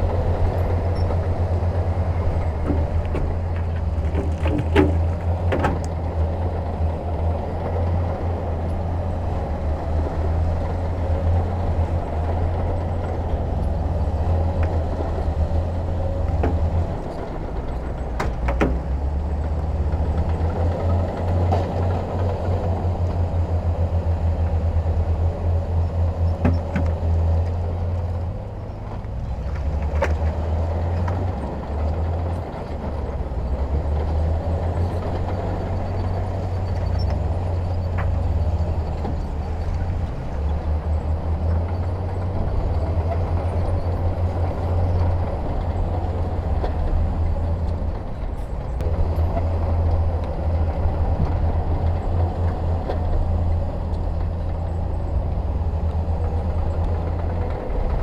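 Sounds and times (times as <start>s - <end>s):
heavy diesel engine rumbling: 0.0s - 58.0s.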